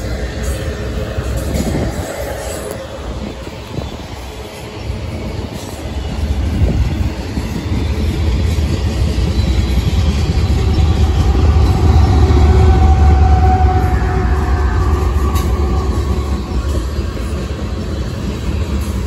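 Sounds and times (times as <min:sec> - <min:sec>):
diesel locomotive engine drone: 0:00.0 - 0:19.0
train wheels clattering over rails: 0:00.0 - 0:19.0.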